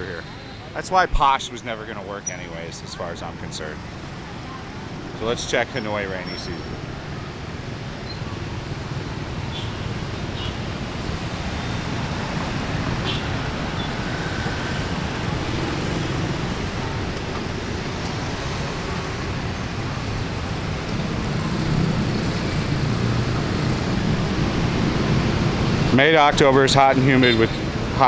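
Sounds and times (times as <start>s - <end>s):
motor scooters and cars passing: 0.0s - 28.0s.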